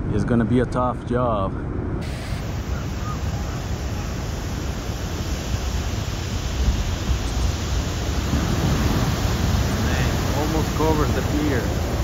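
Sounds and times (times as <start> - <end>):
storm waves breaking: 2.0 - 12.0.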